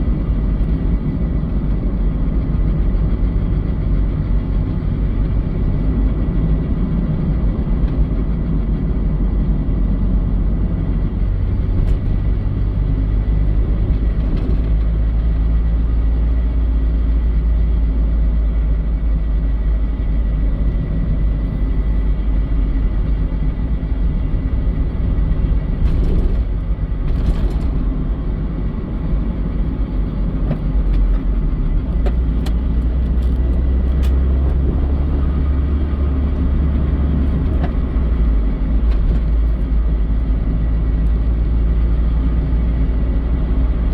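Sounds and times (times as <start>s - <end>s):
car engine low rumble: 0.0s - 43.9s.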